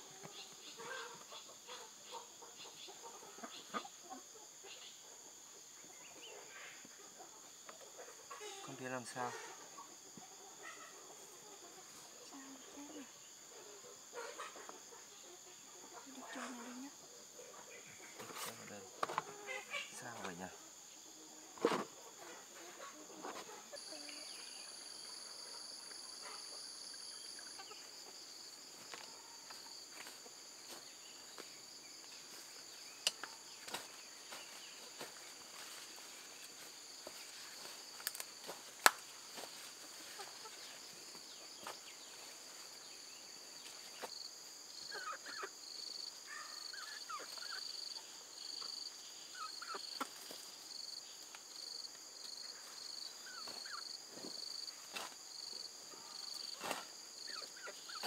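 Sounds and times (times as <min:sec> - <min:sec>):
chorus of insects: 0:00.0 - 0:58.0.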